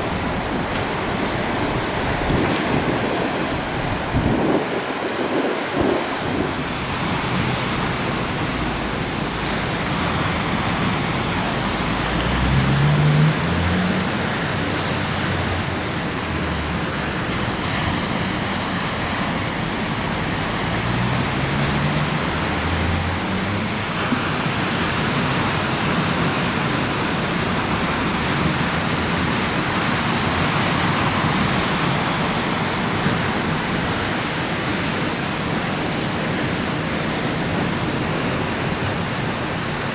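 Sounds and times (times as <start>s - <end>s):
choppy river water washing: 0.0s - 39.9s
gusty wind on microphone: 0.0s - 39.9s.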